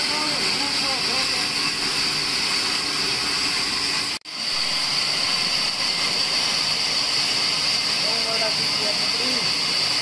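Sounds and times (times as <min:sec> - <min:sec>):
band saw whirring: 0:00.0 - 0:10.0.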